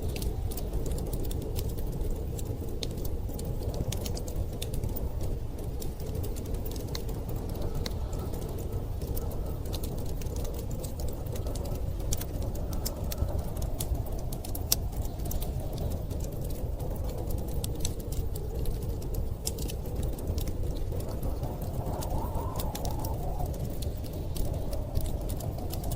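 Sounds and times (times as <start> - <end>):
storm wind rumble: 0.0 - 25.9
wood fire crackling: 0.0 - 25.9.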